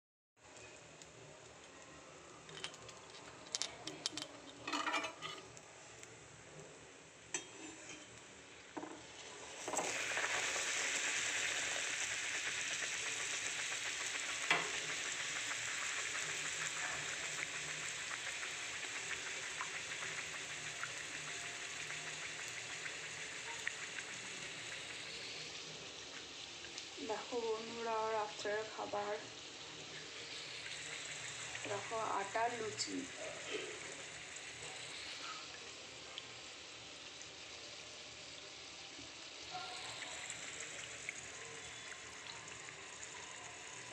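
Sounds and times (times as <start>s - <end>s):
dough deep-frying in oil: 0.4s - 43.9s.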